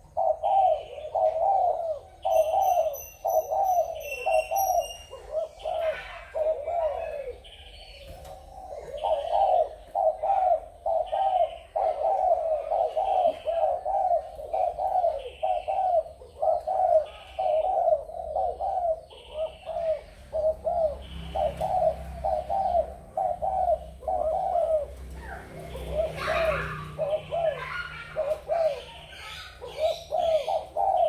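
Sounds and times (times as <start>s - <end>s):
doves cooing: 0.0s - 31.0s.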